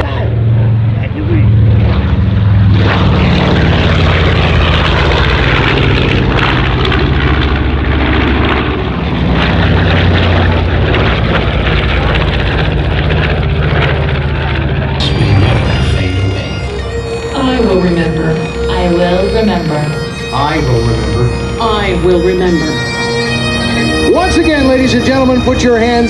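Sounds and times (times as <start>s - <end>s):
propeller aircraft engines flying overhead: 0.0s - 26.0s.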